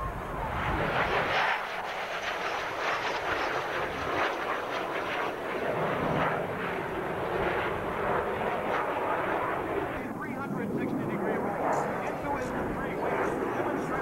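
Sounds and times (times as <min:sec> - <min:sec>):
jet aircraft flying past: 0:00.0 - 0:14.0.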